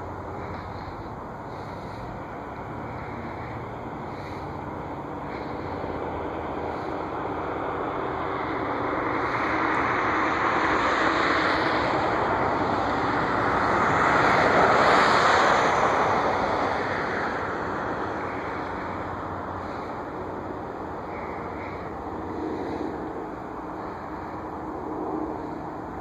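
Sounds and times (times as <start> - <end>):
jet aircraft passing: 0.0 - 26.0.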